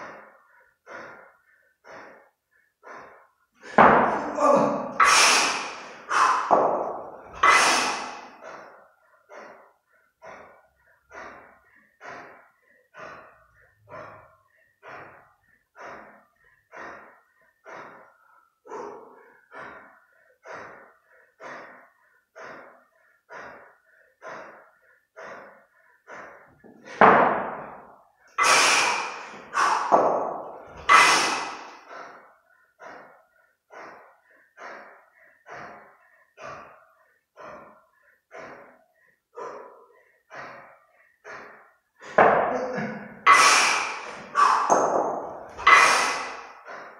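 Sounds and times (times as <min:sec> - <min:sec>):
heavy rhythmic breathing: 0:00.0 - 0:46.9.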